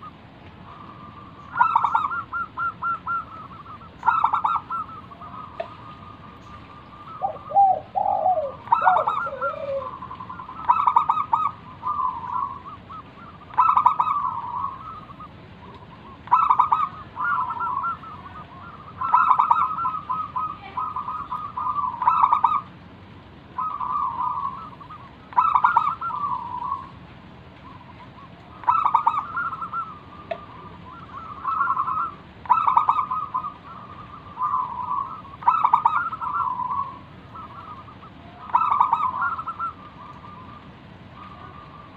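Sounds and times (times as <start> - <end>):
dove cooing song: 0.0 - 22.8, 23.5 - 41.9
lower falling bird call: 0.0 - 22.8, 23.4 - 41.9.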